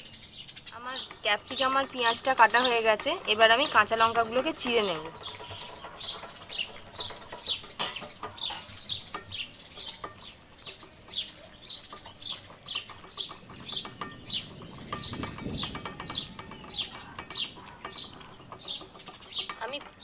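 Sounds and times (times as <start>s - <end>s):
small bird chirping: 0.0s - 20.0s.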